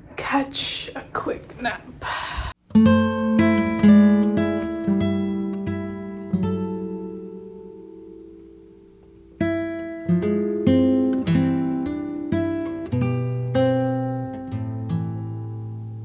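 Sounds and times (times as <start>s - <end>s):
acoustic guitar playing: 2.6s - 16.0s.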